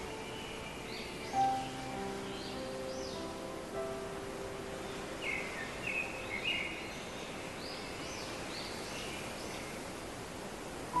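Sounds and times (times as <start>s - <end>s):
birds chirping: 0.0s - 9.9s
outdoor background hiss: 0.0s - 11.0s.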